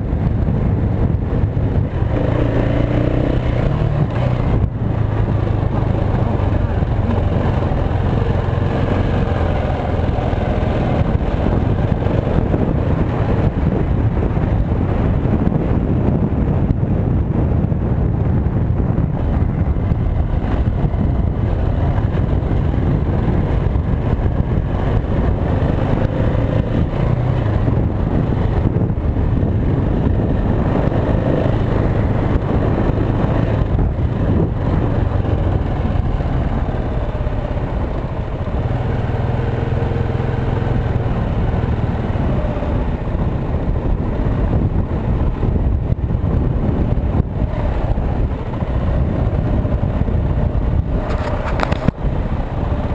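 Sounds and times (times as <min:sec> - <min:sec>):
motorcycle engine revving: 0:00.0 - 0:52.9
wind rushing: 0:00.0 - 0:52.9.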